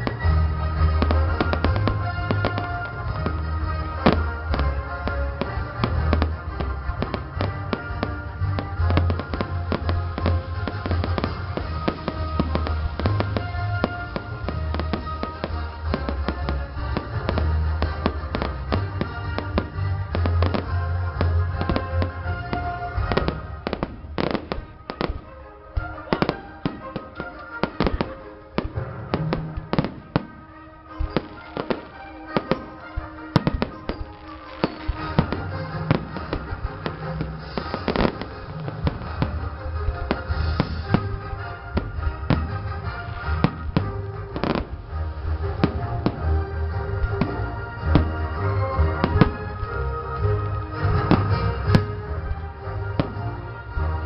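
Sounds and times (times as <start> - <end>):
fireworks banging: 0.0 - 54.0.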